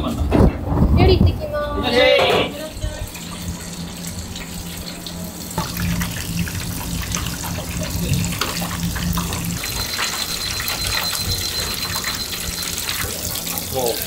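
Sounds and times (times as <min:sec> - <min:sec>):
steady low hum: 0:00.0 - 0:14.0
oil sizzling in a deep fryer: 0:02.7 - 0:14.0.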